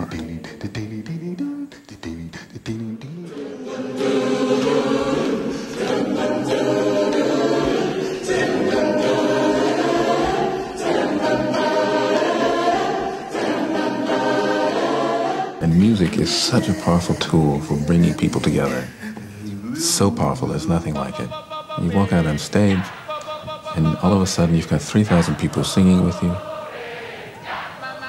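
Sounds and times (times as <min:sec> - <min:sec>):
audience singing a cappella: 0:00.0 - 0:28.0.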